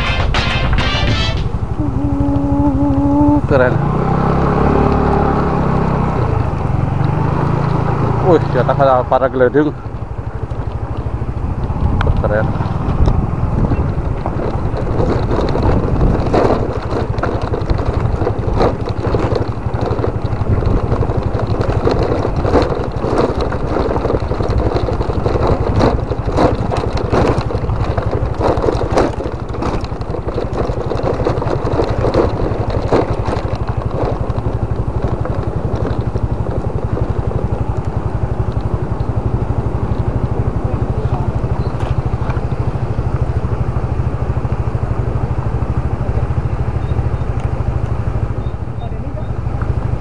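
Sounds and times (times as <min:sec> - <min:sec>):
motorcycle engine running: 0:00.0 - 0:50.0
knocks and rattles from bumps: 0:04.0 - 0:50.0.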